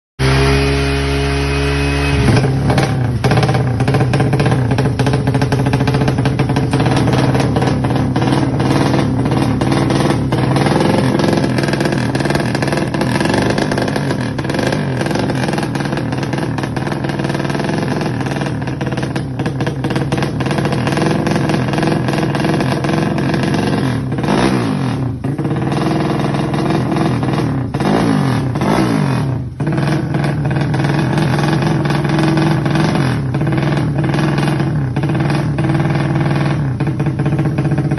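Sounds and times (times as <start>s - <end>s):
motorcycle engine revving: 0.2s - 37.9s.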